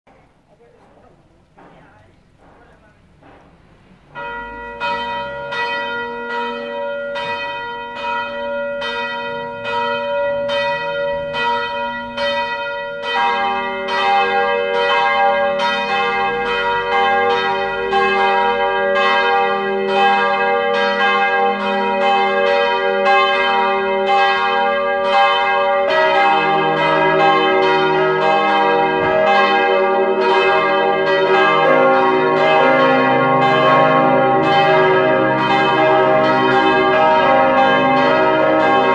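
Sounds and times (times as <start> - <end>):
church bells ringing: 0.9 - 38.9.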